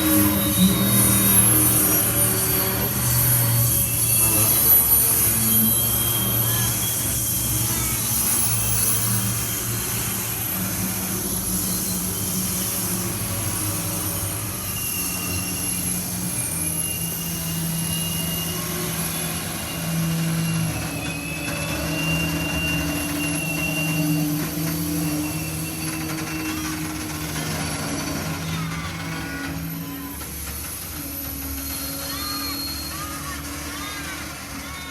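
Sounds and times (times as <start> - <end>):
high wheel squeal: 0.0 - 34.9
train rumbling along track: 0.0 - 34.9.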